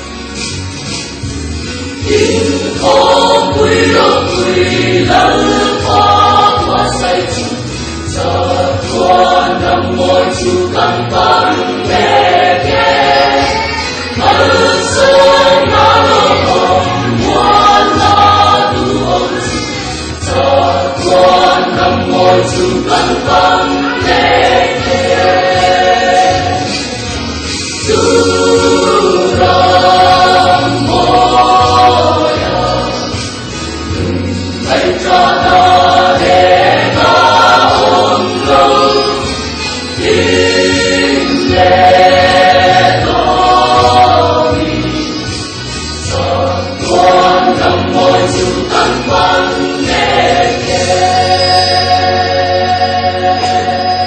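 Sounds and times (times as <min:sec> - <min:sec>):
mixed choir singing gospel: 0:00.0 - 0:54.0.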